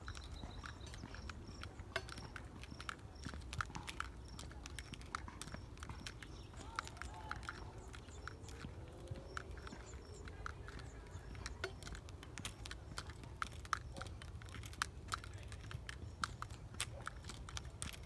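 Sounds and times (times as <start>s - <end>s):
sharp clicks and ticks: 0.0s - 18.0s.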